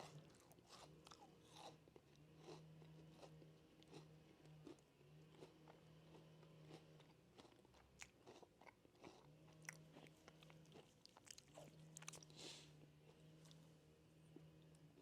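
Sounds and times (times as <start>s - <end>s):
person chewing crunchy snack: 0.0s - 13.6s.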